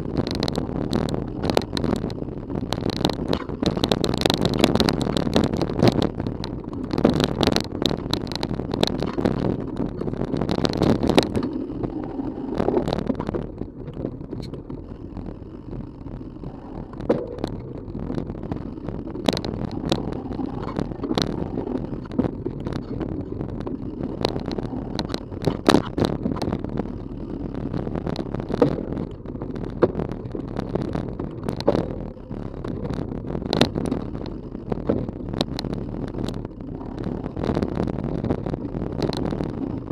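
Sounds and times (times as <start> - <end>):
bike frame rattling: 0.0 - 39.9
bike tyres rumbling on dirt: 0.0 - 39.9
knocks and clatter over bumps: 0.0 - 39.9.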